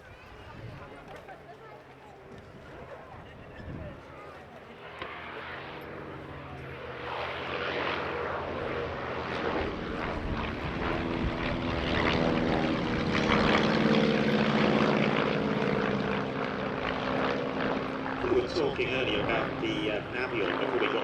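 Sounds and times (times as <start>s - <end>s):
propeller aircraft flying past: 0.0s - 21.0s.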